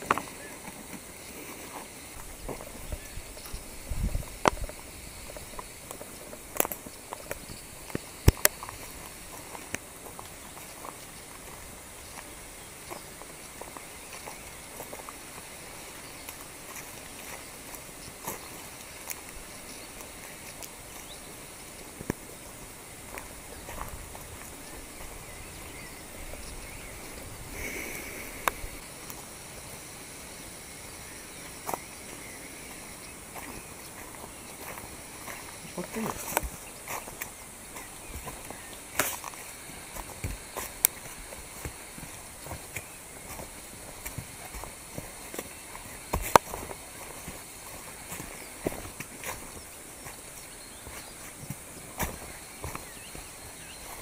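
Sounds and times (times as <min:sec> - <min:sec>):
footsteps on dirt and leaves: 0:00.0 - 0:54.0
insects buzzing: 0:00.0 - 0:54.0.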